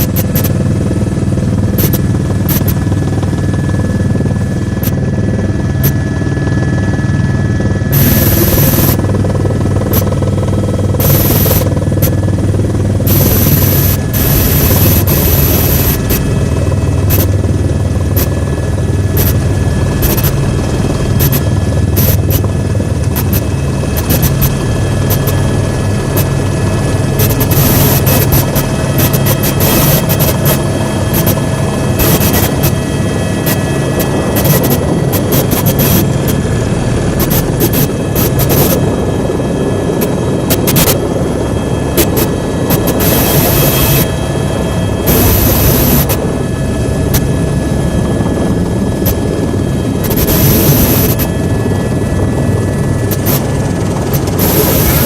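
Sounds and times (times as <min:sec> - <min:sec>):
helicopter drone: 0:00.0 - 0:55.0.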